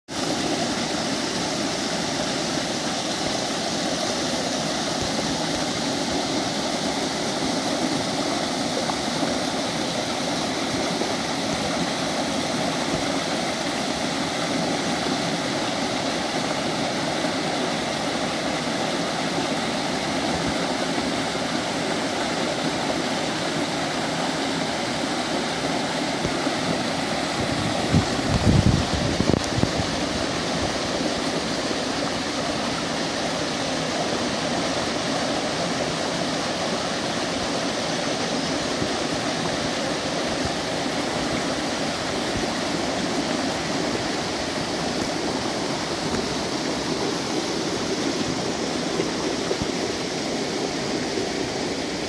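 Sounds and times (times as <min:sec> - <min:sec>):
water spilling over rocks: 0:00.1 - 0:52.0.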